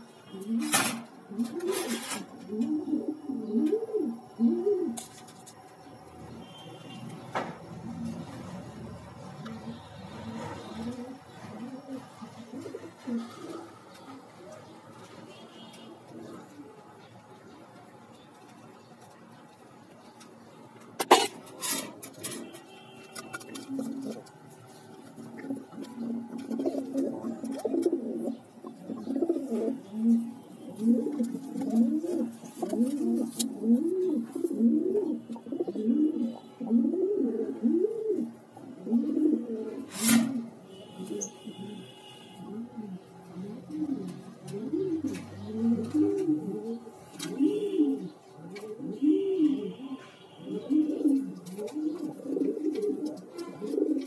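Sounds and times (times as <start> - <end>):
pigeon cooing: 0.0 - 5.1, 7.7 - 16.9, 21.0 - 22.5, 23.1 - 54.0.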